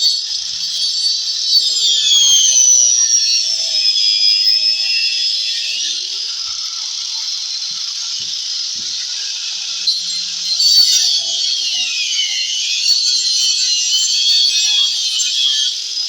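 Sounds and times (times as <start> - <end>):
electric grinder whining: 0.0 - 16.0.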